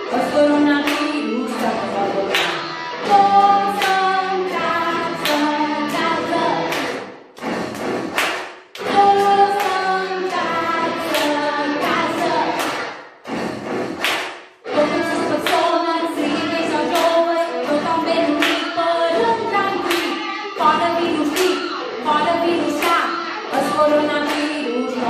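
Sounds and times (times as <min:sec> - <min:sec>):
woman singing into microphone: 0:00.0 - 0:07.0, 0:08.8 - 0:12.8, 0:14.7 - 0:25.0
music backing: 0:00.0 - 0:25.0
sharp claps on the beat: 0:00.0 - 0:25.0.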